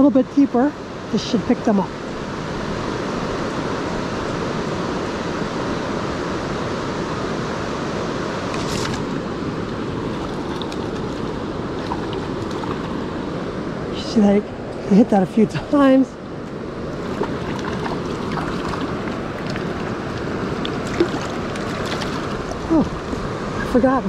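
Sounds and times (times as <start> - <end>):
river current rushing: 0.5 - 24.0.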